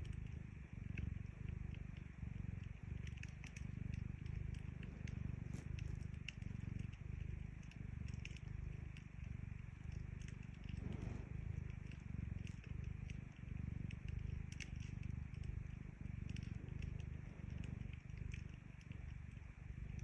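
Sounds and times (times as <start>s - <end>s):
cat purring: 0.0s - 20.0s
wood fire crackling: 2.0s - 20.0s.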